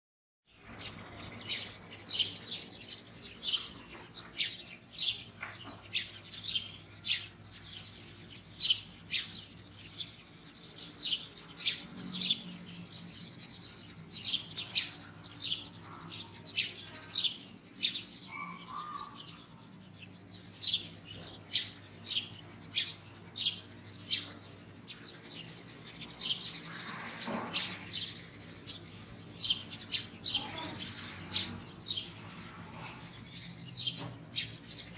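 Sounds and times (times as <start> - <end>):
birds chirping: 0.5 - 34.9.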